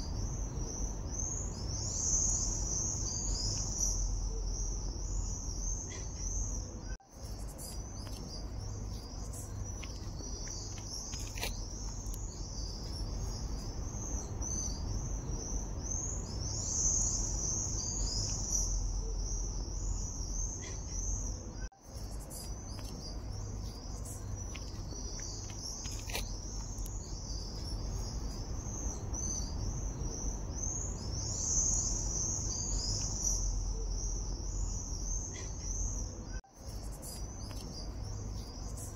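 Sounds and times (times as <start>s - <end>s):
insects chirping: 0.0s - 38.9s
low steady rumble: 0.0s - 38.9s.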